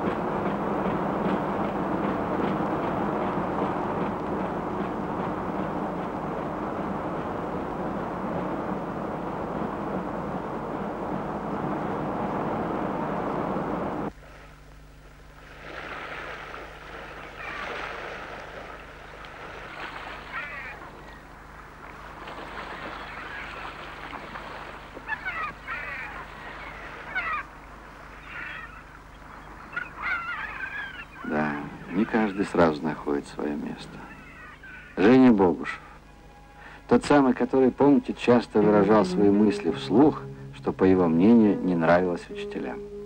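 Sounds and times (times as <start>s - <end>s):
water birds calling: 0.0s - 43.0s.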